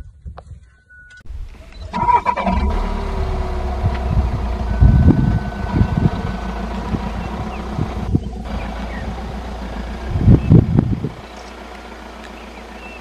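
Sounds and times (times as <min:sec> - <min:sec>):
vehicle engine rumbling: 0:01.2 - 0:13.0.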